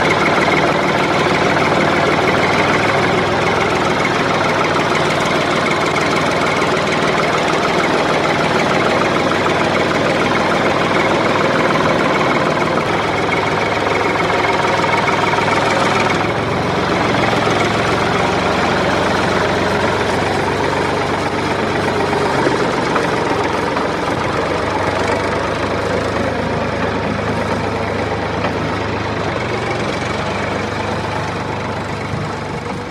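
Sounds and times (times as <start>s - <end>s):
engine idling with knocking chug: 0.0s - 32.9s.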